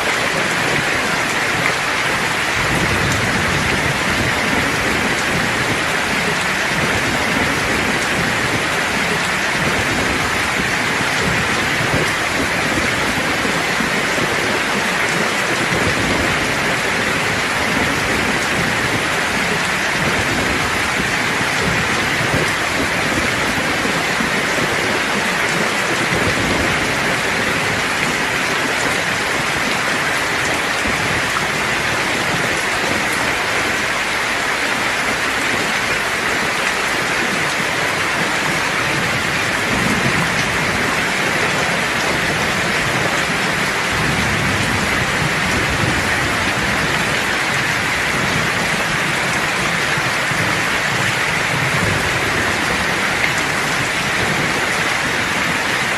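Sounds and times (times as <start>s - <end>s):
steady rain falling: 0.0s - 55.9s
thunder rumbling: 0.1s - 55.9s.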